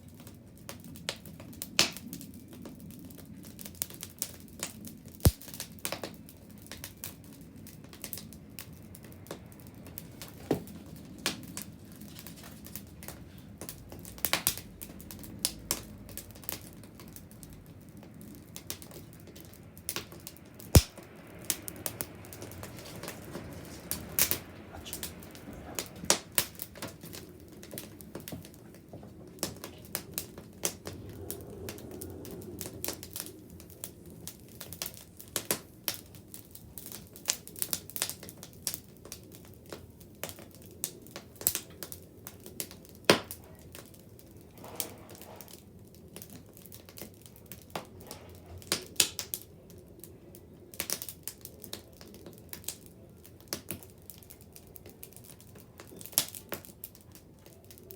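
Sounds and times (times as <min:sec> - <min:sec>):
bonfire crackling and popping: 0:00.0 - 0:57.9
low rumble of flames: 0:00.0 - 0:57.9.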